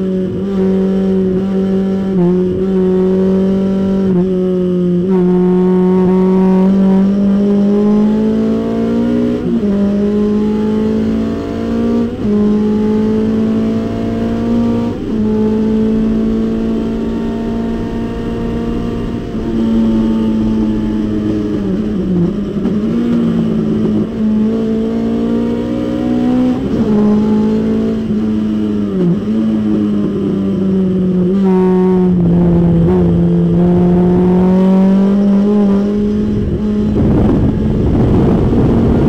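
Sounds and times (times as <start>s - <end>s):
race car engine at full throttle: 0.0s - 39.0s.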